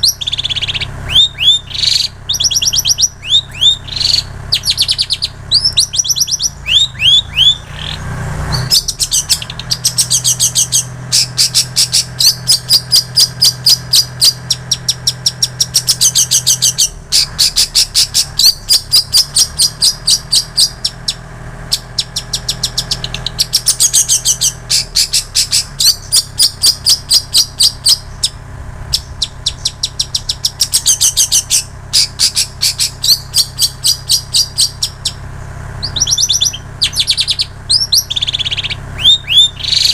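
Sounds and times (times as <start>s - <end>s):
bird singing rapid high chirps: 0.0s - 39.9s
low hum: 0.0s - 39.9s.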